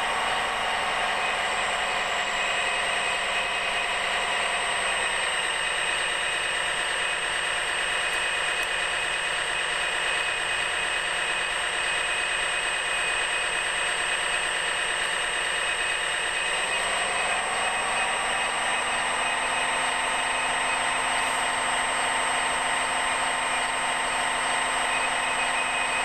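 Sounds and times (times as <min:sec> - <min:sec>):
high-pitched motor whine: 0:00.0 - 0:26.0.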